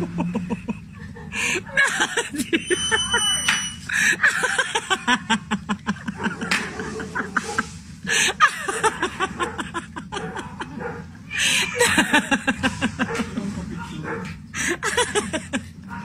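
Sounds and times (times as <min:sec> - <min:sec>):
people talking: 0:00.0 - 0:07.6, 0:08.4 - 0:15.6
bursts of laughter: 0:00.0 - 0:13.5, 0:14.6 - 0:15.9.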